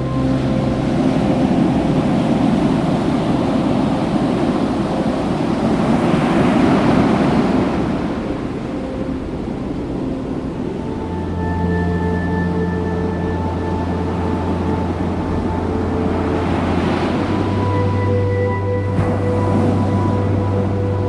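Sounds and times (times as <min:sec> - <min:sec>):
ocean surf breaking on beach: 0:00.2 - 0:11.2, 0:13.5 - 0:21.0.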